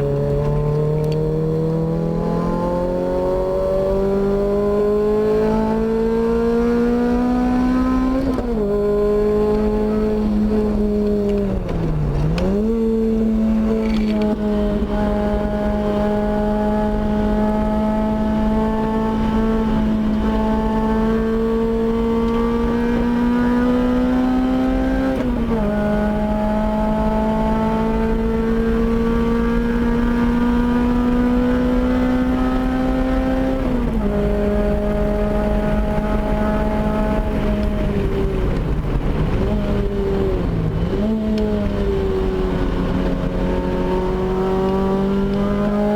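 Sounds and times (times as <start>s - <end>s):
car engine at full throttle: 0.0s - 45.9s.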